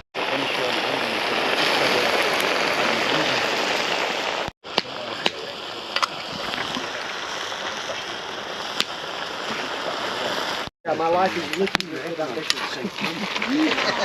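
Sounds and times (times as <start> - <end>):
campfire crackles: 0.2 - 14.0
food sizzling in a pot: 0.2 - 14.0.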